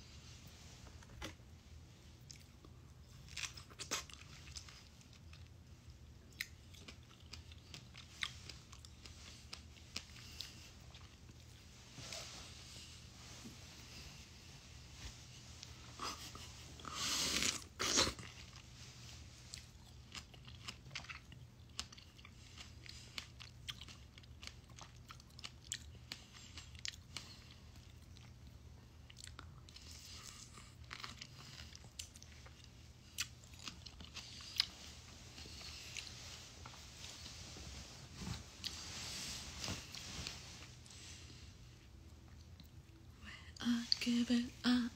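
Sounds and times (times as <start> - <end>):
person chewing strawberry: 1.0 - 11.7, 15.6 - 39.1, 39.7 - 43.1.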